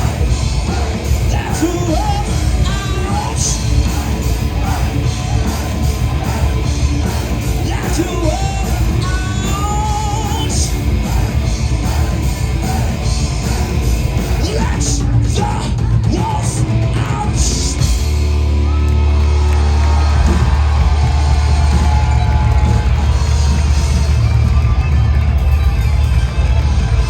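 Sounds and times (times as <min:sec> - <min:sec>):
heavy metal band playing: 0:00.0 - 0:27.0.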